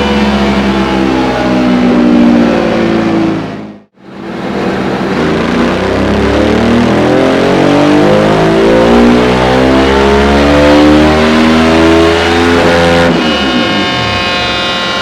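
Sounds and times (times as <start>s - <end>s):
motorcycle engine revving under load: 0.0s - 15.0s.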